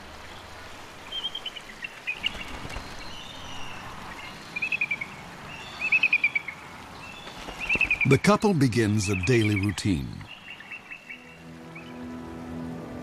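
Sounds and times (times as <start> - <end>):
outdoor ambience hiss: 0.0 - 13.0.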